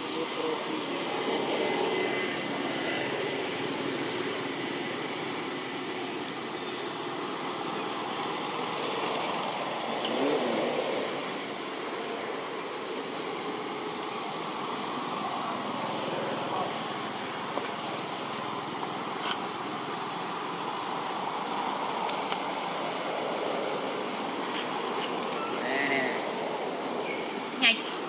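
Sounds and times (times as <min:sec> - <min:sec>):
distant engine noise: 0:00.0 - 0:28.0.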